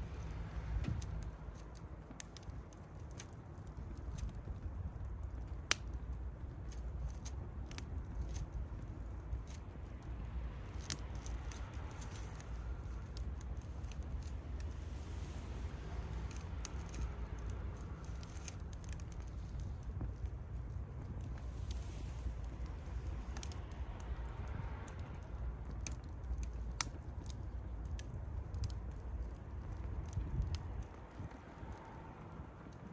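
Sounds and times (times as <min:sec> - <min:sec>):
bonfire crackling and popping: 0:00.0 - 0:32.9
low fire rumble: 0:00.0 - 0:32.9.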